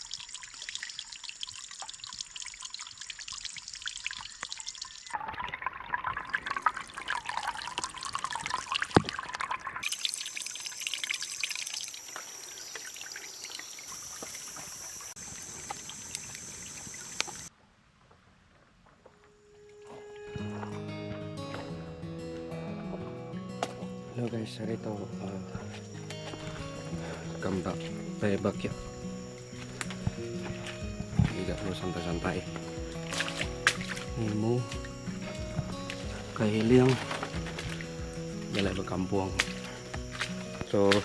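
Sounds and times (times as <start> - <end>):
trickling water: 0.0 - 17.5, 23.0 - 41.0.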